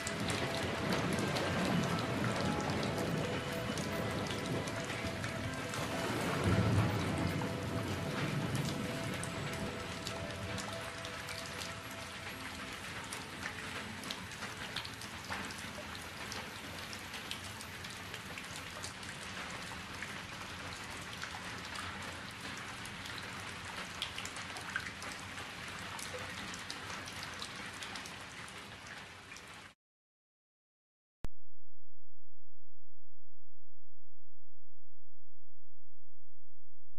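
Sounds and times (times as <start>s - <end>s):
steady rain: 0.0s - 29.8s.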